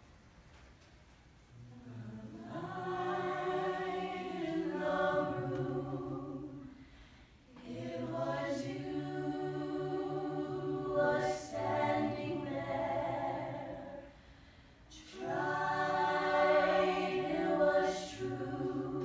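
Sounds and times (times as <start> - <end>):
choir singing a cappella: 1.7 - 19.0.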